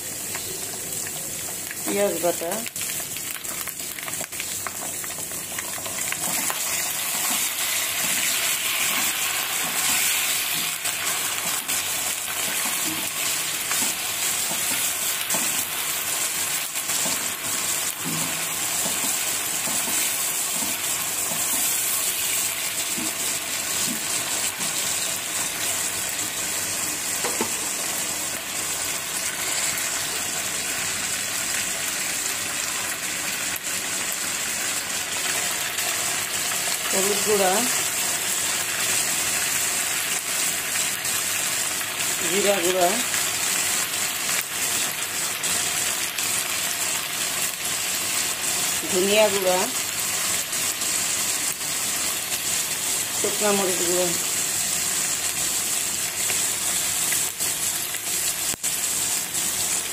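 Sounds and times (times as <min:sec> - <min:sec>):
onions sizzling in hot oil: 0:00.0 - 0:59.9.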